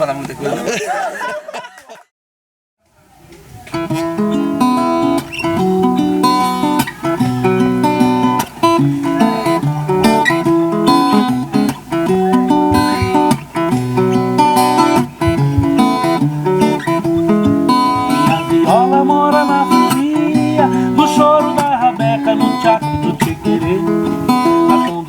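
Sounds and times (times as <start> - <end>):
plucked and strummed guitar: 3.7 - 25.0.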